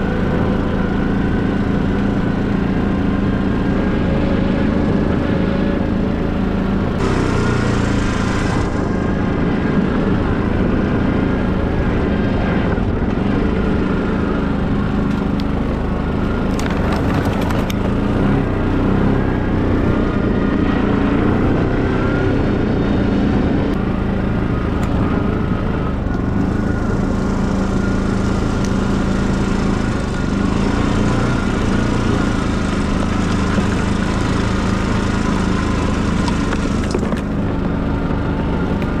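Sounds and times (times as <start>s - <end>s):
quad bike engine running: 0.0s - 39.0s.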